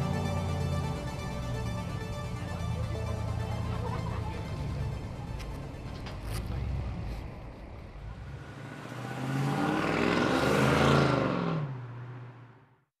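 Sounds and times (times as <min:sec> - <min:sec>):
vehicle engine passing by: 0:00.0 - 0:12.6.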